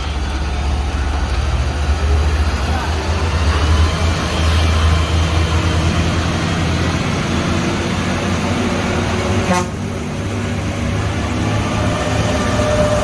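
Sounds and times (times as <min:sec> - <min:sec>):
heavy truck engine rumbling: 0:00.0 - 0:13.0
road traffic: 0:00.0 - 0:13.0.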